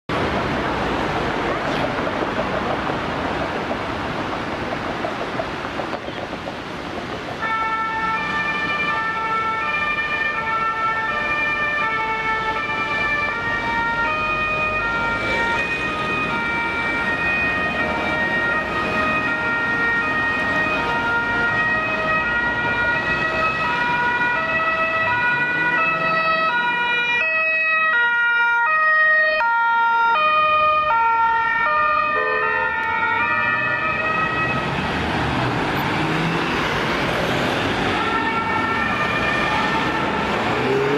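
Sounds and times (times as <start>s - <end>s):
road traffic: 0.1s - 40.9s
two-tone emergency siren: 7.4s - 35.0s, 35.7s - 40.9s.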